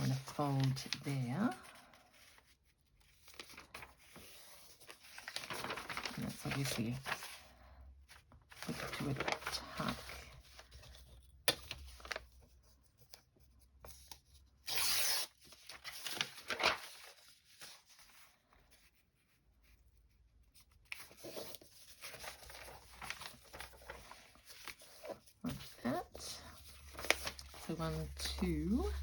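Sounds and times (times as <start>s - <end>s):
paper rustling and creasing: 0.0s - 19.8s, 20.5s - 29.0s.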